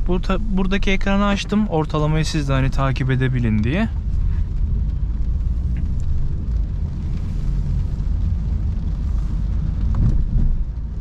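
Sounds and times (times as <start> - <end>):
diesel car engine rumble: 0.0 - 11.0.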